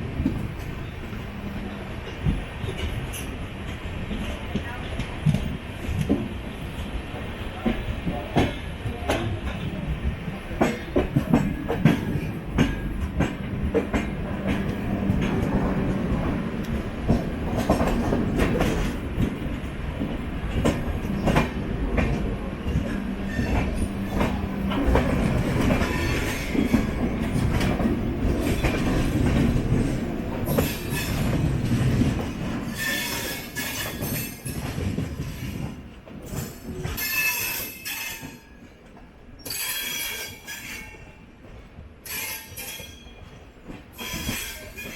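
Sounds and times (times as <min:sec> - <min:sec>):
train rumble: 0:00.0 - 0:44.9.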